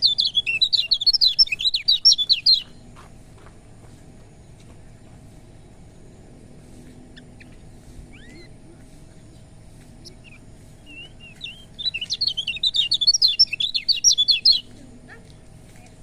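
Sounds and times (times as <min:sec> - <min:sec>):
bird chirping song: 0:00.0 - 0:16.0.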